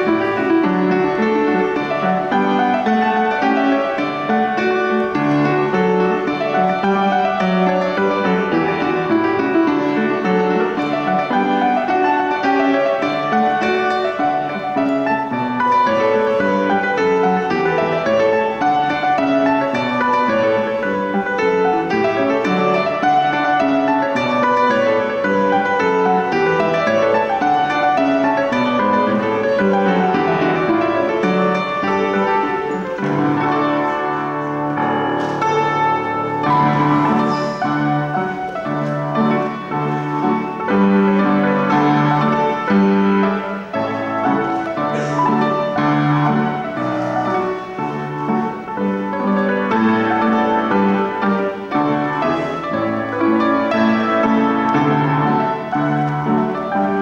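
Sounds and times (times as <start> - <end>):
piano dance tune: 0.0 - 57.0.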